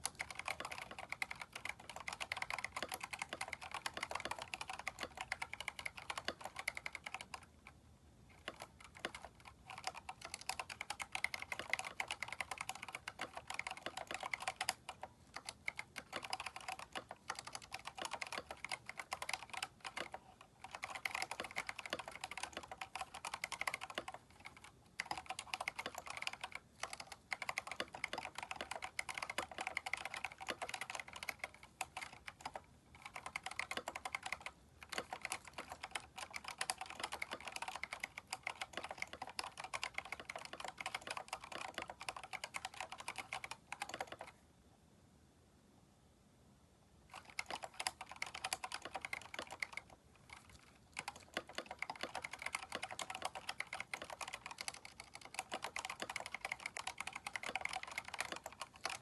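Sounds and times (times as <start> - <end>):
mechanical keyboard typing: 0.0 - 44.4, 47.1 - 59.0.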